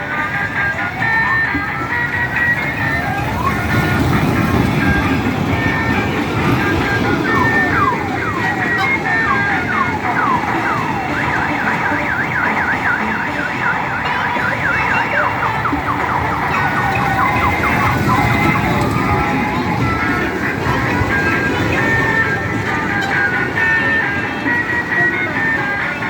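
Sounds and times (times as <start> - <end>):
steady rumble: 0.0 - 26.0
electronic siren sweeps: 0.7 - 24.0.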